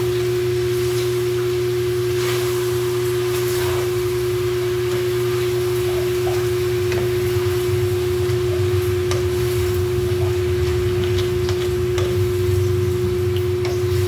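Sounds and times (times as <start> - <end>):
loud steady hum: 0.0 - 14.0.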